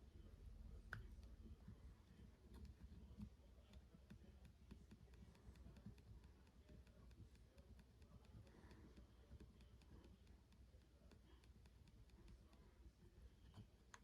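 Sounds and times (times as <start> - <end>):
low steady hum: 0.0 - 14.0
faint light clicks and ticks: 0.9 - 14.0.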